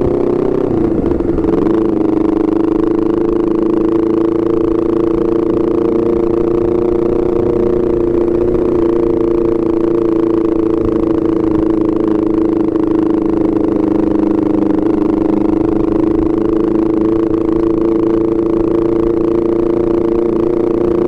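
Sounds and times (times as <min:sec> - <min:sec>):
motorcycle exhaust at steady revs: 0:00.0 - 0:21.0.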